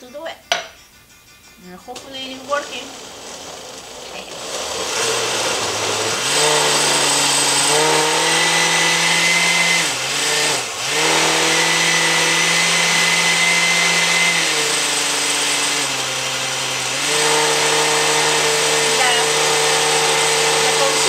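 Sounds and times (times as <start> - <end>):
blender motor running: 2.3 - 21.0.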